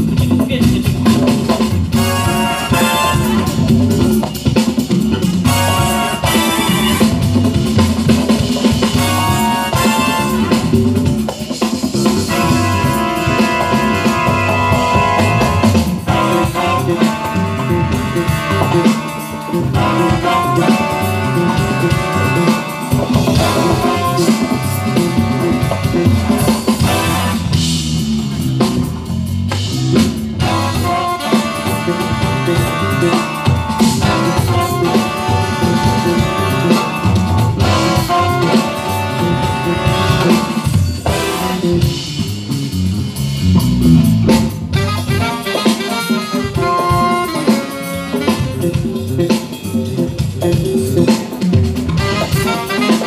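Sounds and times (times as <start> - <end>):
drum kit: 0.0 - 53.0
electric bass guitar: 0.0 - 53.0
jazz band playing: 0.0 - 53.0
keyboard: 0.0 - 53.0.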